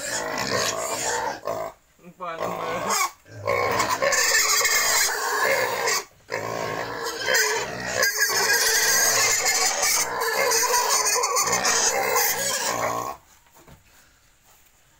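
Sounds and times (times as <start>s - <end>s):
young pigs squealing: 0.0s - 1.8s, 2.4s - 13.2s.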